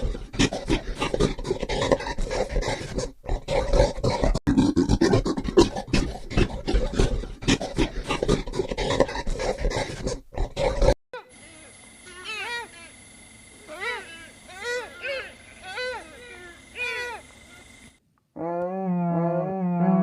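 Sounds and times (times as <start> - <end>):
animal making harsh rapid calls: 0.0 - 13.0, 13.6 - 17.7.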